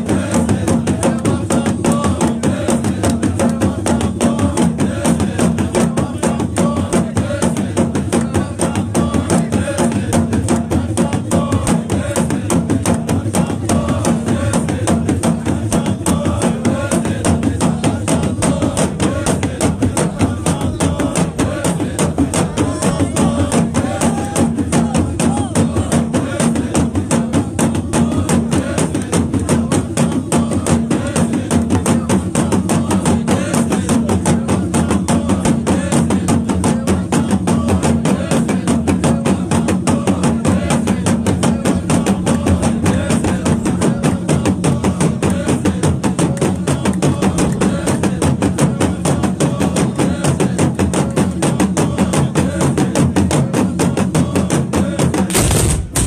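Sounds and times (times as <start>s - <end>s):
drums and hand percussion: 0.0s - 56.0s
group of voices: 0.0s - 56.0s.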